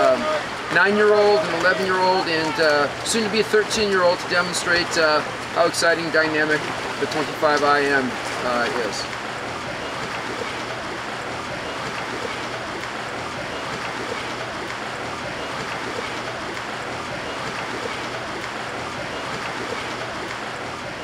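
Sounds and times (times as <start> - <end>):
water splashing and churning: 0.0 - 21.0.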